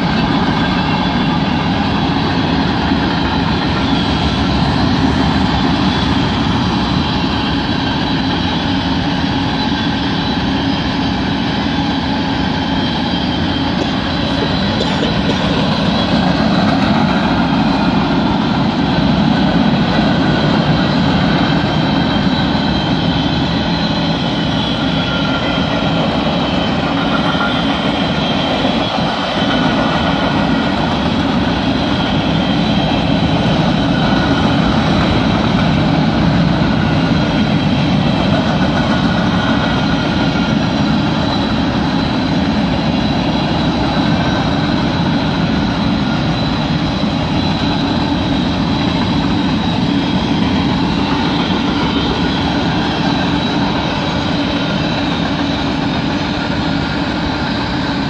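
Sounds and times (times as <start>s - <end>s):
train wheel-on-rail noise: 0.0s - 58.0s.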